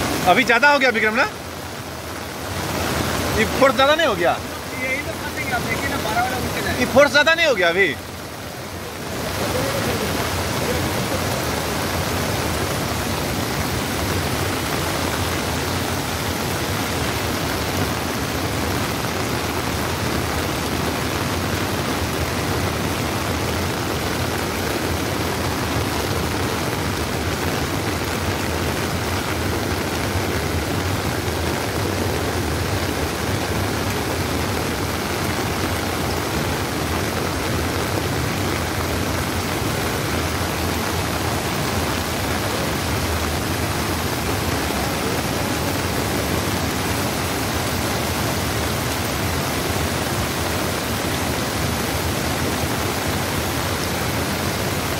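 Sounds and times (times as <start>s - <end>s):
heavy rain and rushing water: 0.0s - 54.9s.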